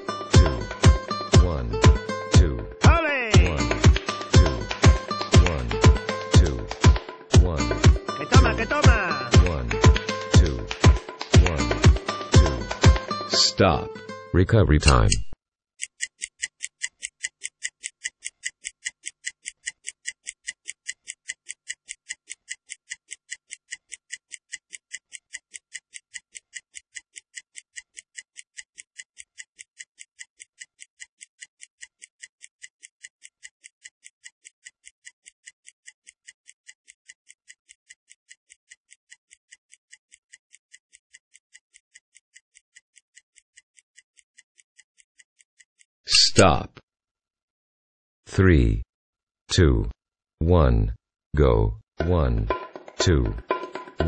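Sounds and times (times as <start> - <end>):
stopwatch ticking: 0.0 - 13.2, 15.8 - 46.5.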